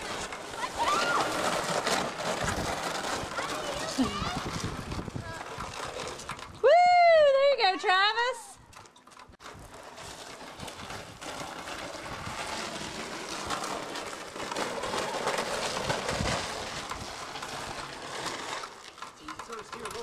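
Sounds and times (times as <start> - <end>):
sled bumps: 0.0 - 20.0
sled scraping over snow: 0.0 - 20.0.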